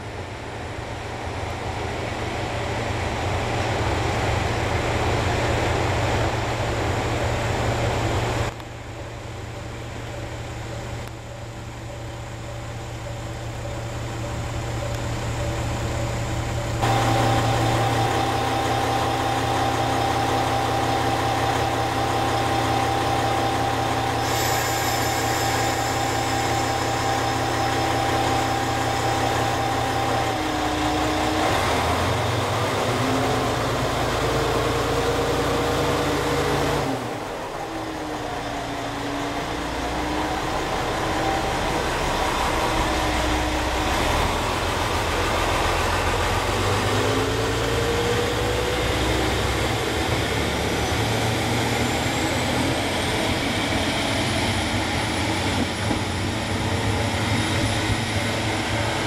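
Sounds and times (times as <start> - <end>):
approaching railcar whine: 0.0 - 59.0
diesel railcar engine humming: 0.0 - 59.0.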